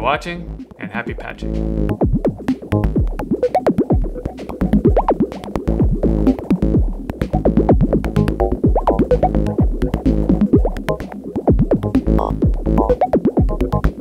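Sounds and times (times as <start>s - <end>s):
deep pulsing bass: 0.0s - 14.0s
synthesizer notes swooping in pitch: 1.5s - 14.0s
clicking percussion: 1.6s - 14.0s.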